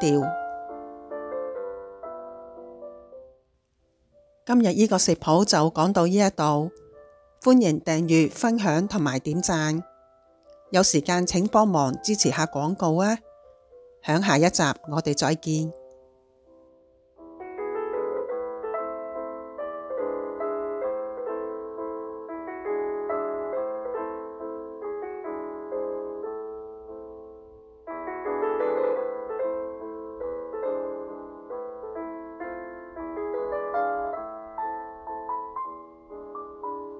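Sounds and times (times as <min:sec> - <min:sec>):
gentle piano melody: 0:00.0 - 0:36.9.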